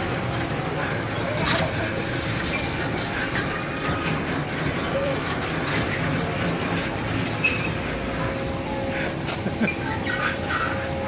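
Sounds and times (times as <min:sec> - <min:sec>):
coaster wheels rumbling on rail: 0:00.0 - 0:11.0.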